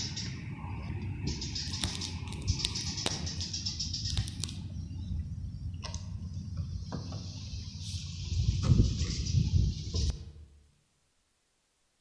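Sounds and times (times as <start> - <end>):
small birds twittering: 0.0 - 10.2.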